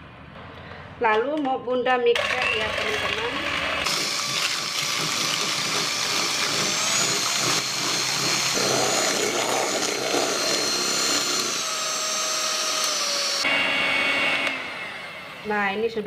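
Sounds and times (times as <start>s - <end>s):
electric hand mixer whining: 2.2s - 15.6s.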